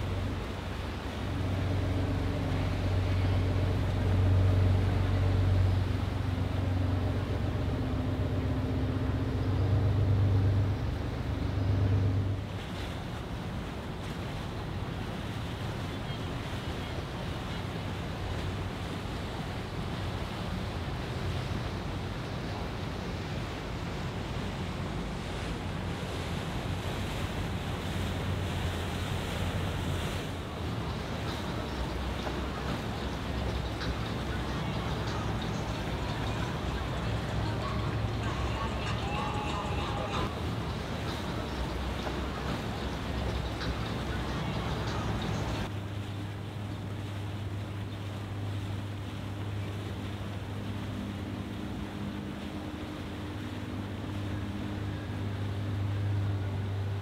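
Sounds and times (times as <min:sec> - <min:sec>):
boat engine humming: 0:00.0 - 0:57.0
rushing water: 0:00.0 - 0:57.0.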